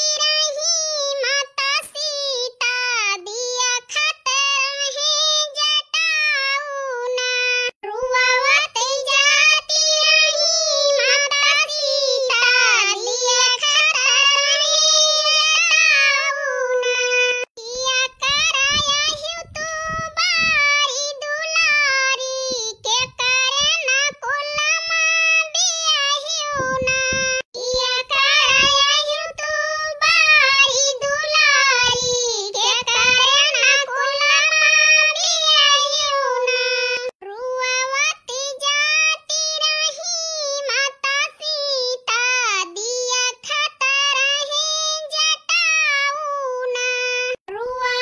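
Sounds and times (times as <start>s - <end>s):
high cartoon voice singing: 0.0s - 48.0s.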